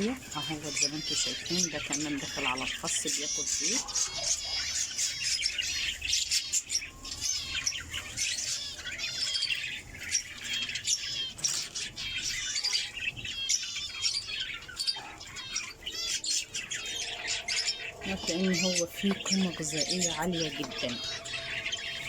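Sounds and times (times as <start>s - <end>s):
bird squawks: 0.0s - 22.0s
birds chattering and chirping: 0.0s - 22.0s.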